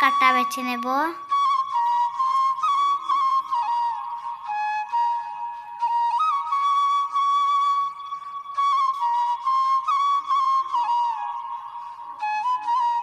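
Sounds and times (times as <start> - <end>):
slow flute melody: 1.2 - 13.0.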